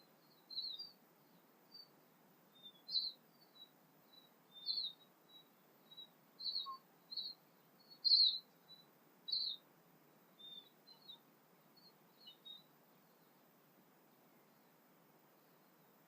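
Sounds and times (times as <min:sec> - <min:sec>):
bird chirping: 0:00.0 - 0:09.7, 0:10.3 - 0:15.9
faint outdoor background noise: 0:00.0 - 0:16.0.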